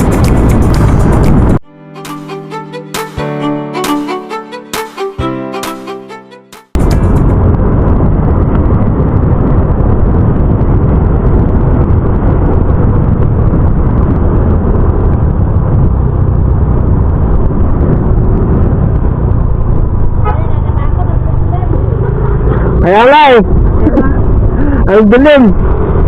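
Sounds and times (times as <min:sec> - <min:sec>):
wind rushing over microphone: 0:00.0 - 0:01.6, 0:06.8 - 0:26.0.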